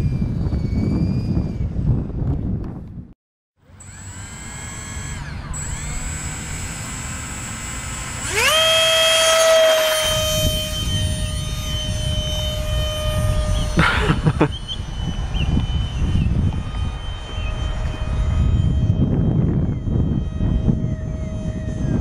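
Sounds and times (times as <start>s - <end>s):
model jet motor whining: 0.0s - 2.1s, 3.6s - 22.0s.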